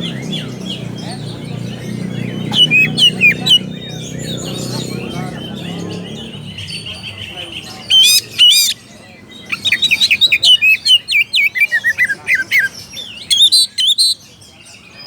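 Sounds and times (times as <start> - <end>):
bird singing whistles and chirps: 0.0 - 15.0.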